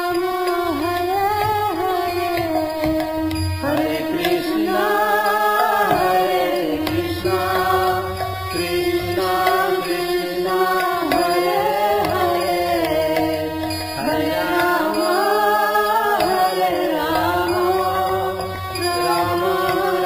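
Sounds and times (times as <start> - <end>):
person singing gliding melody: 0.0 - 20.0.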